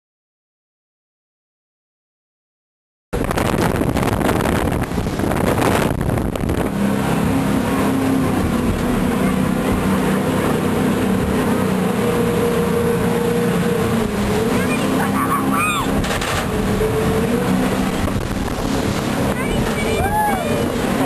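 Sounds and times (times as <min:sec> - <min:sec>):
boat engine: 0:03.2 - 0:21.0
wind and water rushing: 0:03.2 - 0:21.0.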